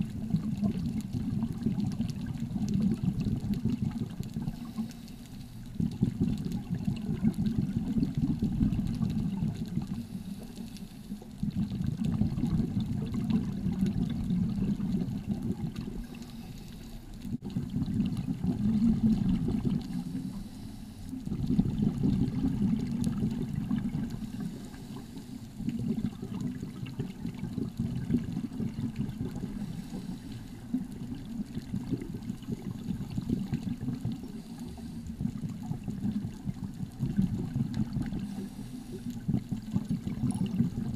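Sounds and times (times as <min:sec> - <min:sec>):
muffled underwater rushing water: 0:00.0 - 0:40.9.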